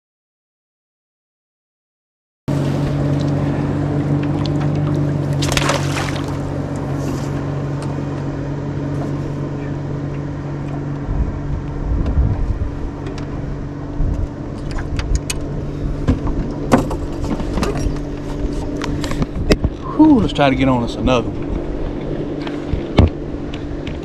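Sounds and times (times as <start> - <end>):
low rumbling: 2.5 - 24.0
outboard motor running: 2.5 - 24.0.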